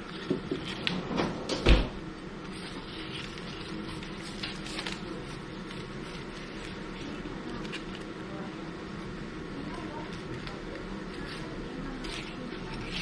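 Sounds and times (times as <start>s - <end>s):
steady background hum: 0.0s - 13.0s
rustling of label paper: 2.4s - 13.0s.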